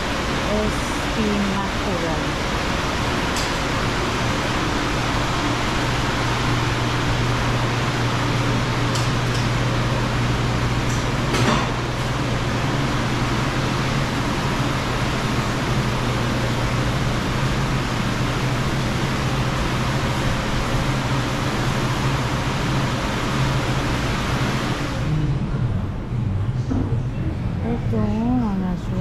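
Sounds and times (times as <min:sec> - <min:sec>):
machinery hum and hiss: 0:00.0 - 0:29.0.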